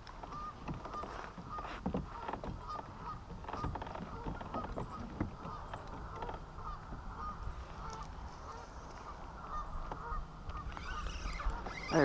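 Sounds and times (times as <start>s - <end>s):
geese honking: 0.3s - 12.0s.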